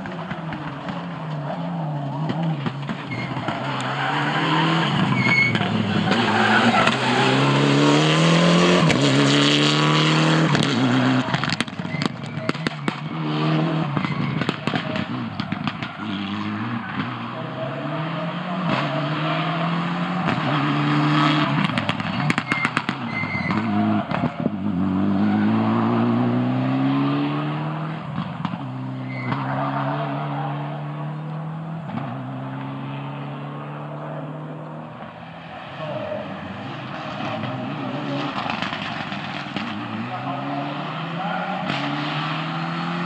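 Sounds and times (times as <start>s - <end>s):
rally car engine accelerating: 0.0s - 43.0s.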